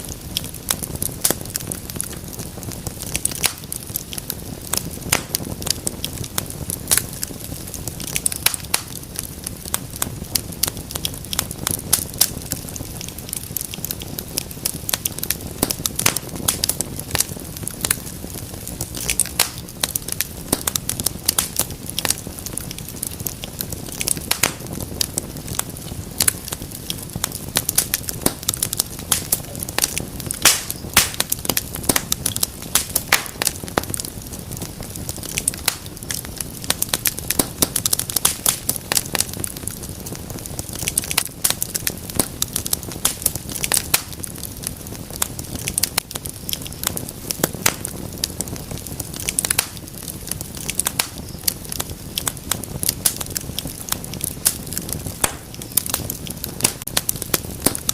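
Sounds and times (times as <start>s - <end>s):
fireplace fire crackling: 0.0s - 57.9s
low rumble of flames: 0.0s - 57.9s
sharp pops of fire: 0.0s - 57.9s.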